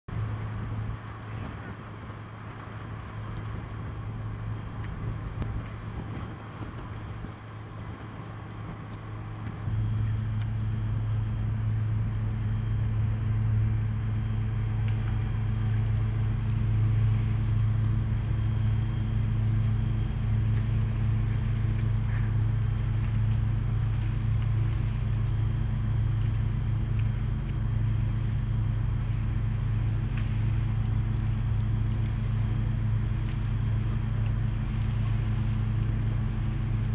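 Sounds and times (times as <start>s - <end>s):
diesel engine drone: 0.1s - 36.9s.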